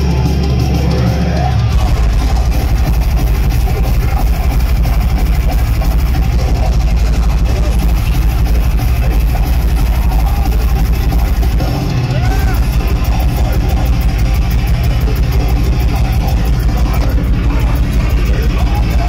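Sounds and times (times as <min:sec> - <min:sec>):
rapid double bass drumming: 0:00.0 - 0:19.0.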